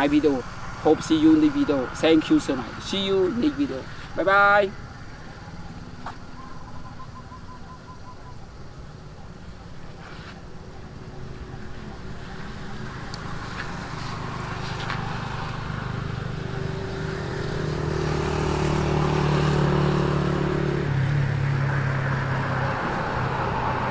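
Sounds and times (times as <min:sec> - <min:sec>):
vehicle engine passing by: 0:00.0 - 0:07.5, 0:09.7 - 0:23.9.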